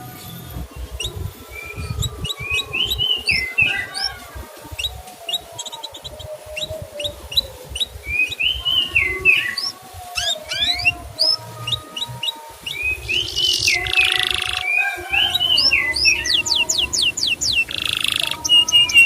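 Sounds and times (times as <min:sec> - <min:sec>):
canary chirping: 0:00.0 - 0:19.0.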